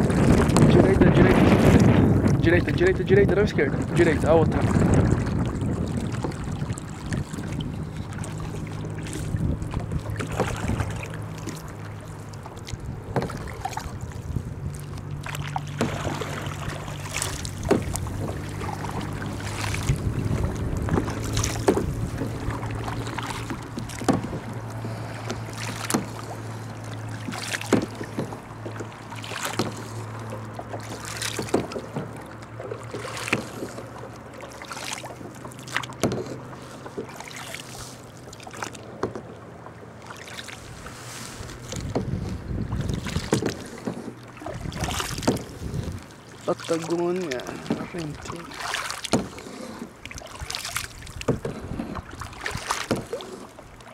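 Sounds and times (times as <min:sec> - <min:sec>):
paddle splashing in water: 0:00.0 - 0:53.9
water dripping off paddle: 0:03.8 - 0:39.2, 0:41.7 - 0:53.9.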